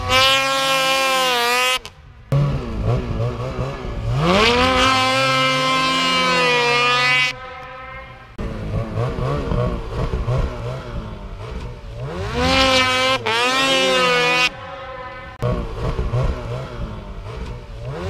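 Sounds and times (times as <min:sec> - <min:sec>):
snowmobile engines revving: 0:00.0 - 0:18.0.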